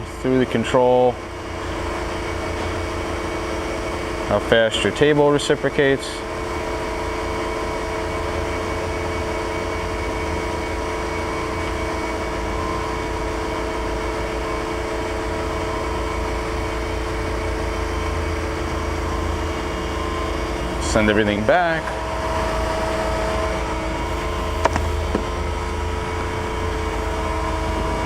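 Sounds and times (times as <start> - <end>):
grinding machine humming: 0.0 - 28.0.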